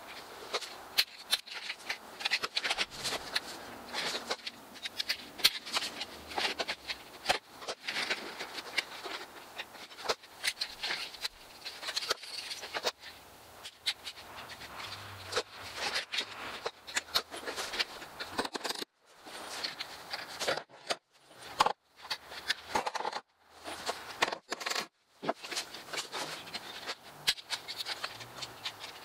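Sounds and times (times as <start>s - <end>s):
plastic strip rattling: 0.0s - 29.0s.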